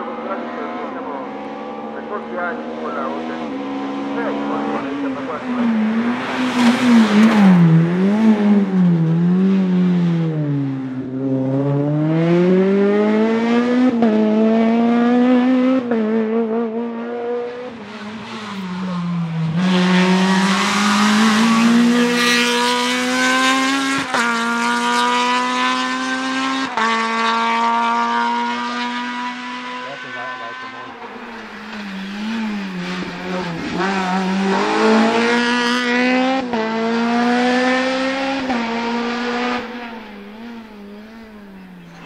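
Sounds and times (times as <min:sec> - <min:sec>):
racing car engine at high revs: 0:00.0 - 0:42.0.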